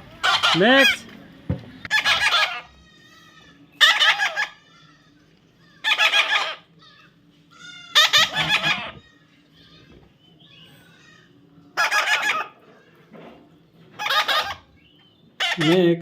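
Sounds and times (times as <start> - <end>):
parrot squawking: 0.0 - 1.1, 1.9 - 13.1, 13.9 - 14.8, 15.4 - 16.0.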